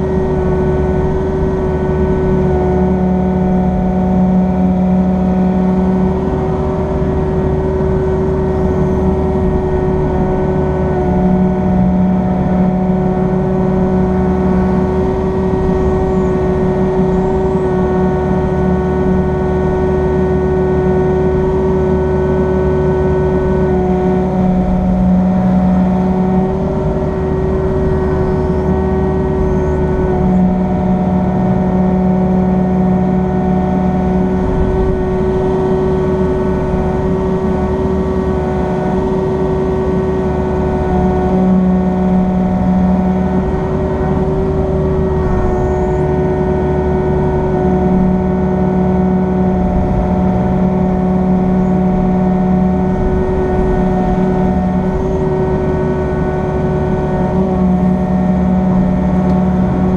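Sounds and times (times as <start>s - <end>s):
excavator engine running: 0.0s - 59.9s
low droning tone: 0.0s - 59.9s.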